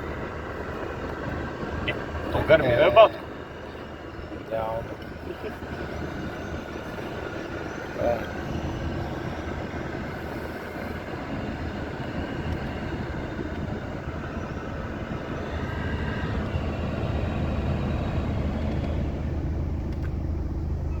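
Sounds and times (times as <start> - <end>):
blower fan running: 0.0 - 21.0.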